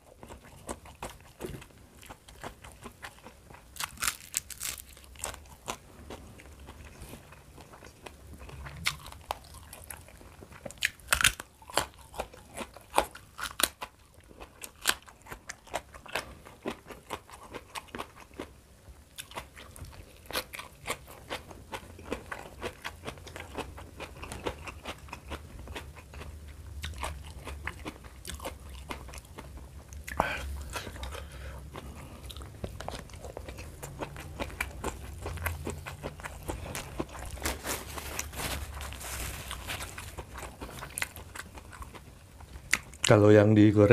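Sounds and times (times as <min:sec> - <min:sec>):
crunchy bites and chewing: 0:00.0 - 0:18.5, 0:19.1 - 0:43.1.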